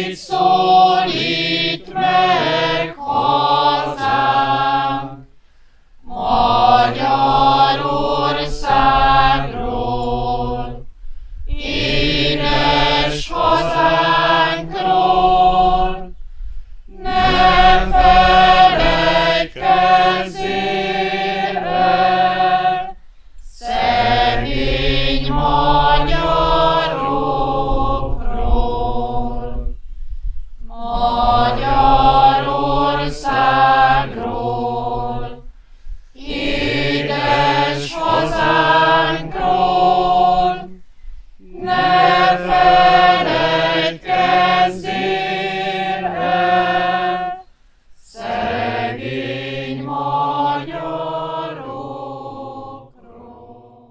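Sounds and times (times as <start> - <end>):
voices singing a chant: 0.0 - 5.4, 6.0 - 16.2, 16.9 - 29.8, 30.6 - 35.5, 36.1 - 53.9.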